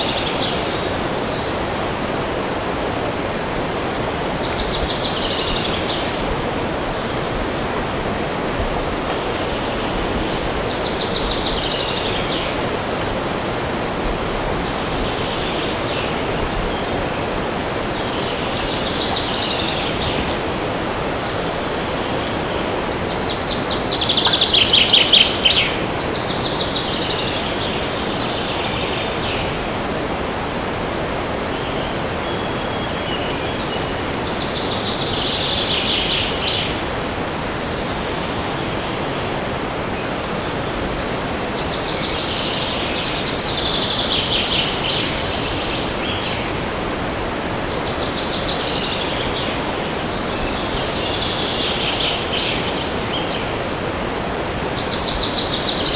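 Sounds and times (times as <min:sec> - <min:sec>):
songbirds singing trills: 0:00.0 - 0:55.9
wind in a forest: 0:00.0 - 0:55.9.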